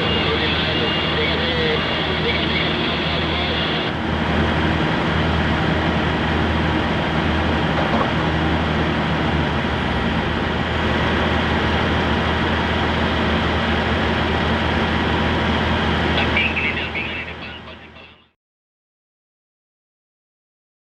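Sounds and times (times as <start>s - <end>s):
diesel truck engine running: 0.0s - 18.3s.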